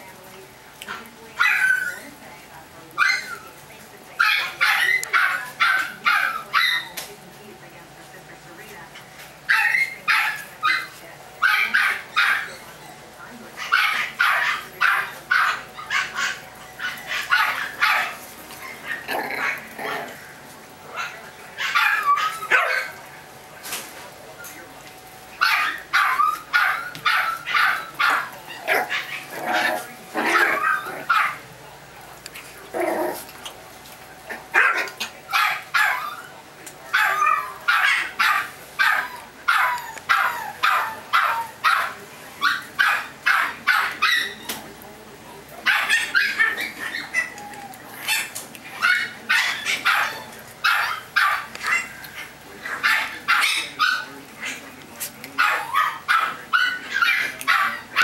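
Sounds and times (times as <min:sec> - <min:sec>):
puppies barking and yipping: 0:00.8 - 0:07.2, 0:09.0 - 0:23.6, 0:24.4 - 0:44.8, 0:45.5 - 0:58.0.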